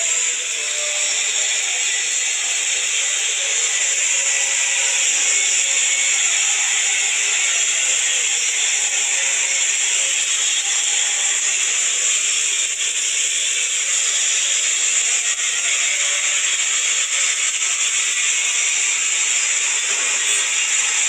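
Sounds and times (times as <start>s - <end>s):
arc welding crackling hiss: 0.0s - 21.0s.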